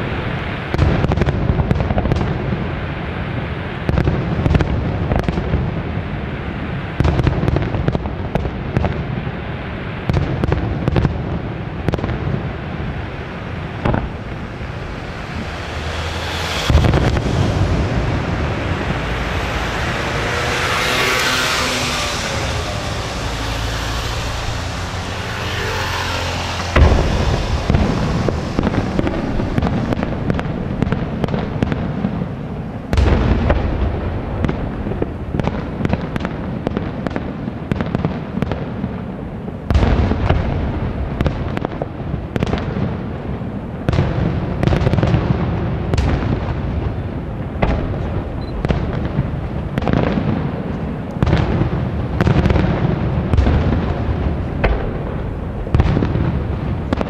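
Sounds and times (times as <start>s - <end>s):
fireworks bangs and crackles: 0.0s - 57.0s
heavy fireworks booms: 0.0s - 57.0s.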